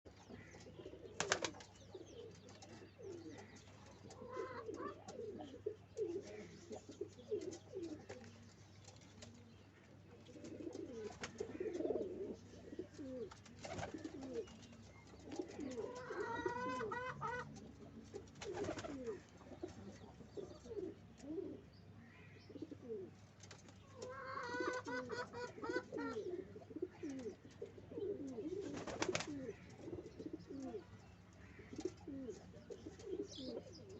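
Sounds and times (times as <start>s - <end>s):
pigeons cooing: 0.2s - 8.5s, 10.1s - 14.6s, 15.2s - 21.7s, 22.5s - 23.2s, 23.9s - 33.9s.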